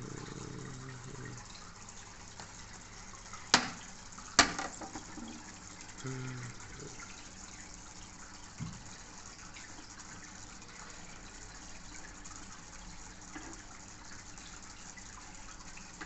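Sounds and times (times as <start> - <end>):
aquarium water trickling: 0.0 - 16.0.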